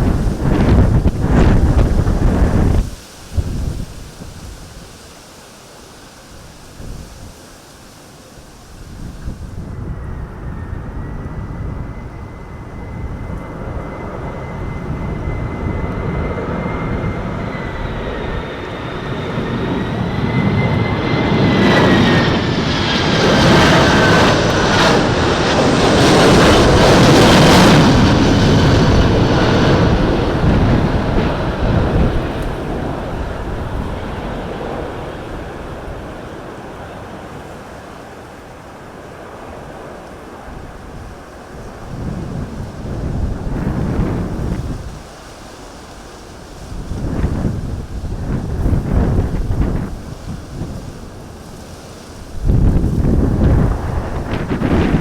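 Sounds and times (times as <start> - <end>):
jet engines whining and rumbling: 0.0 - 55.0.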